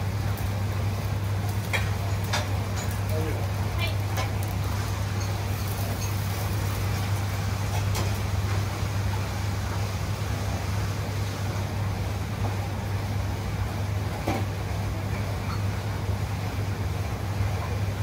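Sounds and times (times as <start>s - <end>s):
kitchen extraction fans humming: 0.0s - 18.0s.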